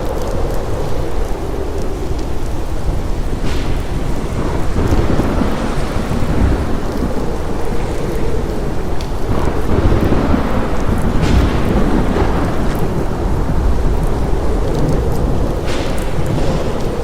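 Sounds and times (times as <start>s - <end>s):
deep continuous rumble: 0.0s - 17.0s
heavy steady rain: 0.0s - 17.0s.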